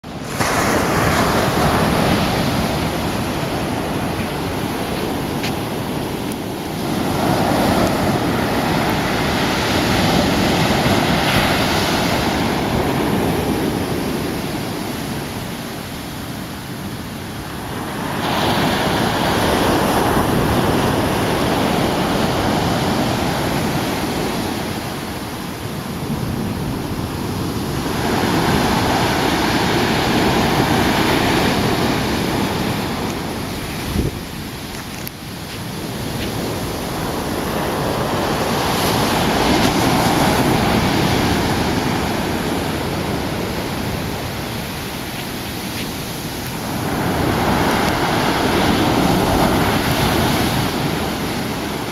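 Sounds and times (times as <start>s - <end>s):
surf breaking on beach: 0.0s - 51.9s.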